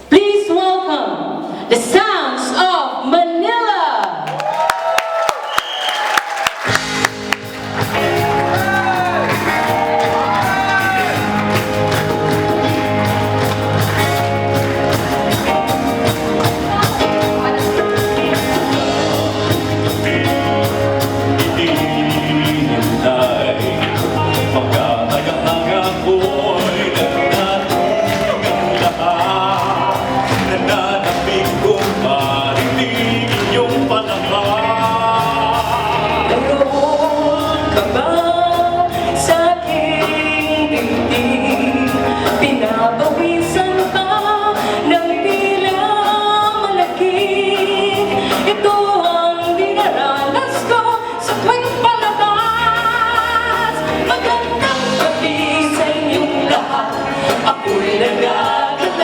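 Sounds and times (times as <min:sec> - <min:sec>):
band accompaniment with beat: 0:04.2 - 0:59.0
sustained bass line: 0:06.7 - 0:59.0
voices singing: 0:07.6 - 0:59.0.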